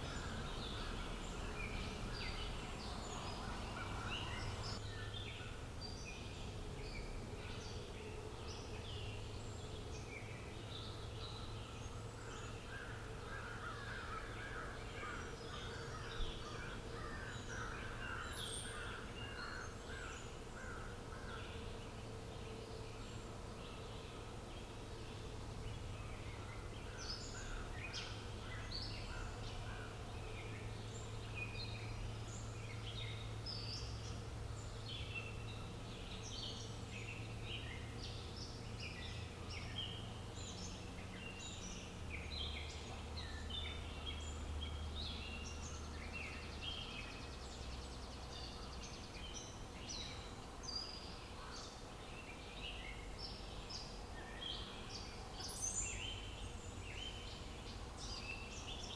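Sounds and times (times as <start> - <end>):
small birds chirping and singing: 0.0 - 58.9.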